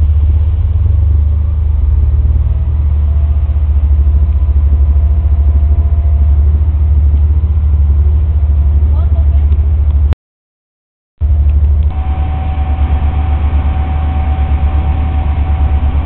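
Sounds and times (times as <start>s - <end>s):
boat engine low drone: 0.0s - 10.2s, 11.2s - 16.0s.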